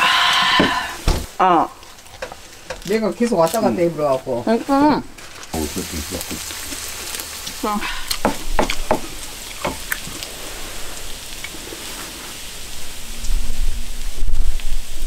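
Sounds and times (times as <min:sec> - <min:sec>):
food sizzling in a grill pan: 0:00.0 - 0:15.0.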